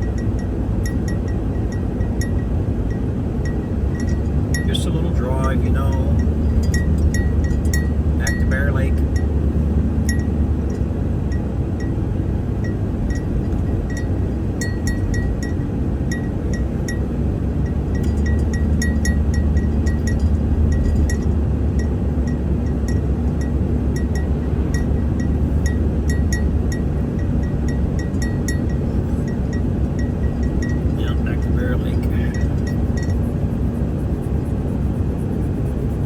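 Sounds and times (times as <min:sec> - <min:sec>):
road and engine rumble: 0:00.0 - 0:36.0.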